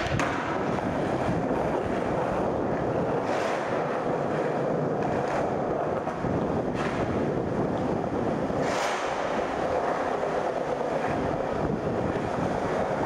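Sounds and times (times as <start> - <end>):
skateboard wheels rolling: 0.0 - 13.0.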